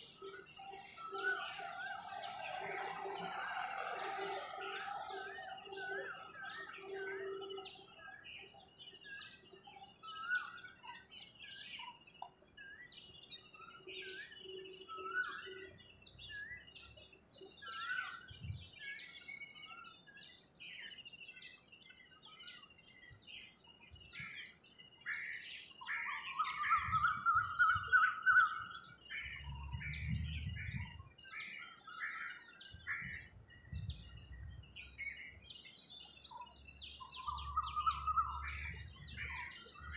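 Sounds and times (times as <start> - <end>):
birds chirping in chorus: 0.0 - 39.9.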